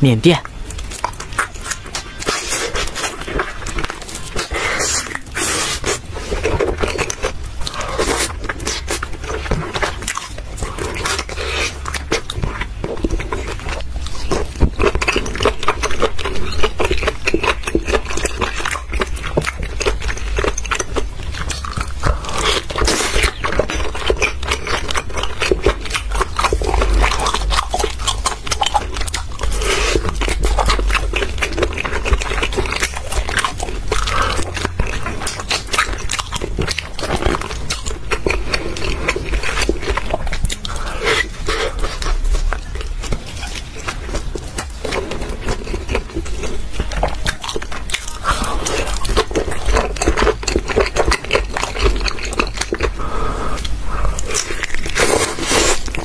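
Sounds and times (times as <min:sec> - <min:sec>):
steady low hum: 0:00.0 - 0:56.0
chewing with wet mouth smacks: 0:00.4 - 0:56.0.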